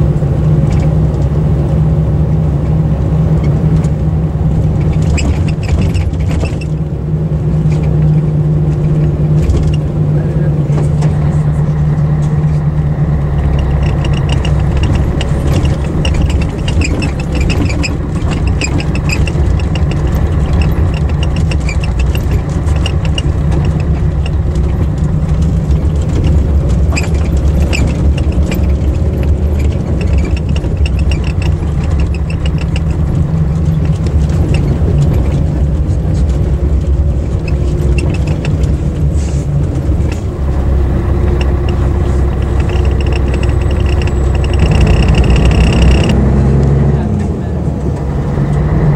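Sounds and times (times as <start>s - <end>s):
diesel bus engine running: 0.0s - 48.9s.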